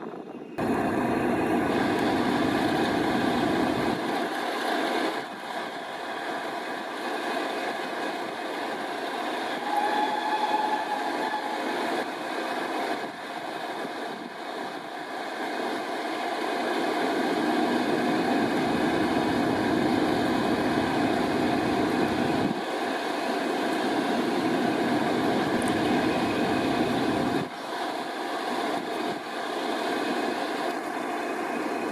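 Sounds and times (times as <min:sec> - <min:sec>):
diesel locomotive engine: 0:00.0 - 0:31.9
rumbling train noise: 0:00.0 - 0:31.9.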